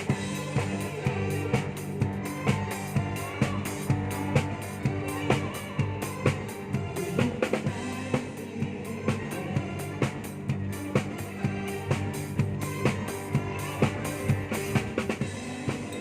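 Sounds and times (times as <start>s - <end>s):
drum kit kick and snare: 0.0s - 16.0s
live band playing: 0.0s - 16.0s.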